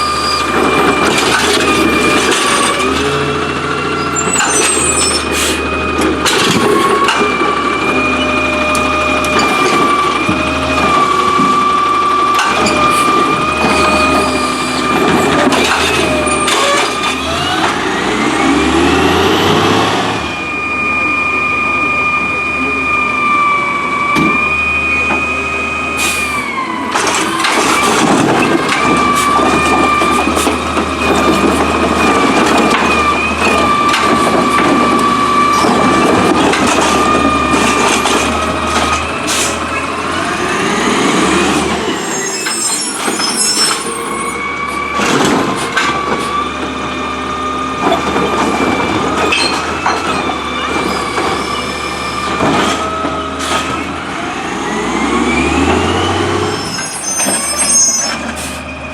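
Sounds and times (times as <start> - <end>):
garbage truck engine whine: 0.0 - 58.9.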